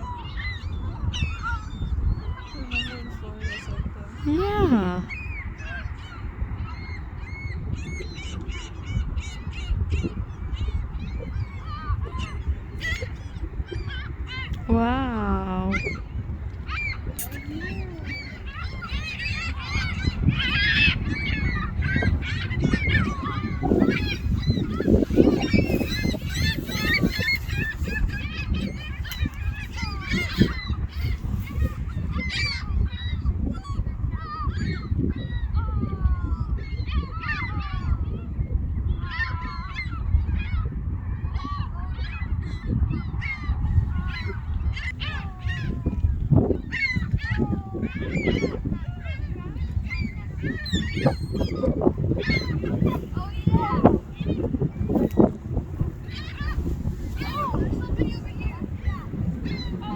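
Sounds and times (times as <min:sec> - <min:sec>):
gulls calling: 0:00.0 - 0:37.8, 0:41.3 - 0:59.9.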